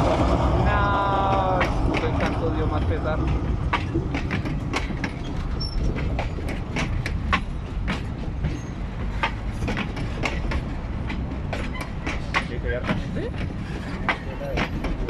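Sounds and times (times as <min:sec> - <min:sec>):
train coaches rumbling past: 0:00.0 - 0:15.0
wheels clacking over rail joints: 0:00.0 - 0:15.0.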